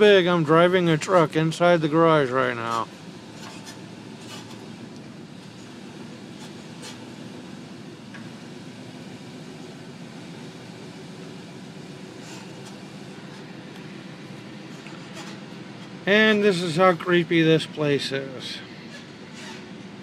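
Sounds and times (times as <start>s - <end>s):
truck engine and road hum: 0.0s - 20.0s.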